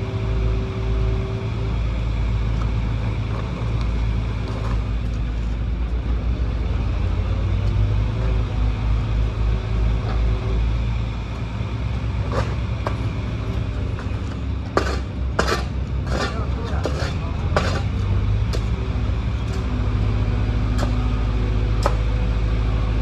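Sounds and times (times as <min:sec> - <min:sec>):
excavator diesel engine rumble: 0:00.0 - 0:23.0.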